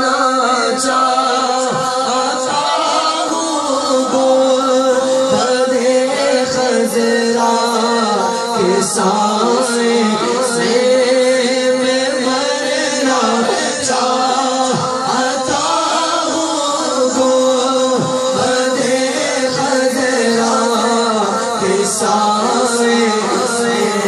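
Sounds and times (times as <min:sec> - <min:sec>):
man singing: 0:00.0 - 0:24.0
steady held drone: 0:00.0 - 0:24.0.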